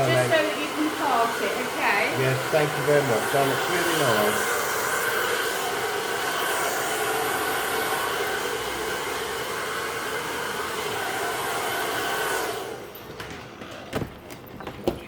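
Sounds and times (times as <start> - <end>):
hair dryer blowing: 0.0 - 13.0.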